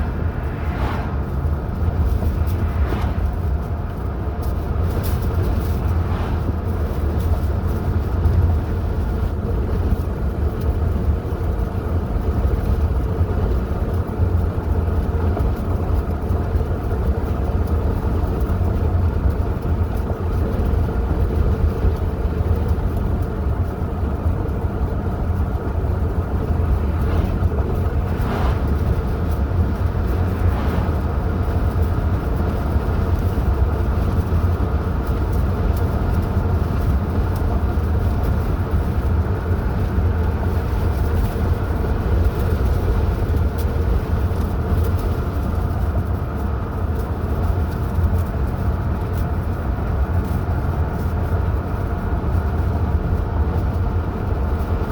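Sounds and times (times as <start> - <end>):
car driving on road: 0.0 - 54.9.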